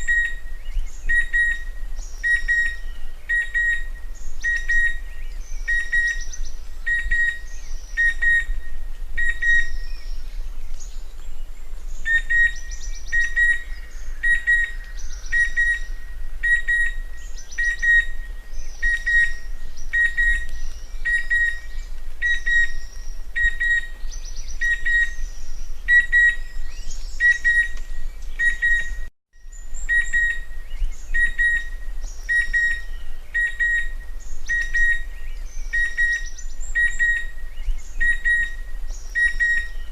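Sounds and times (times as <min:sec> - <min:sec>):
cuckoo whistled calls: 0:00.0 - 0:11.2, 0:11.8 - 0:39.9
other birds calling: 0:00.0 - 0:39.9.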